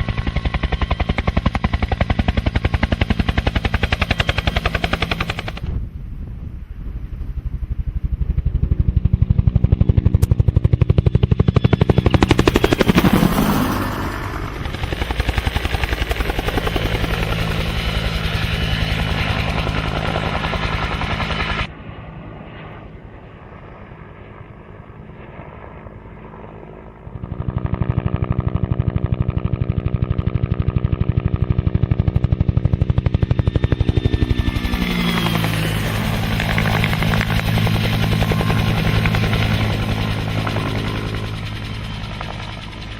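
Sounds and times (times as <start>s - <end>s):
helicopter rotor chopping: 0.0s - 42.9s.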